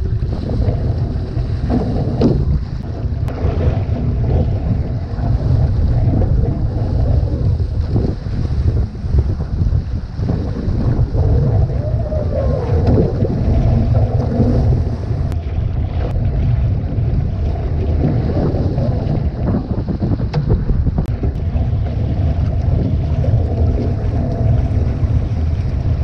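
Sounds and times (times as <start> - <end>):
water rushing along hull: 0.0 - 26.0
wind buffeting microphone: 0.0 - 26.0.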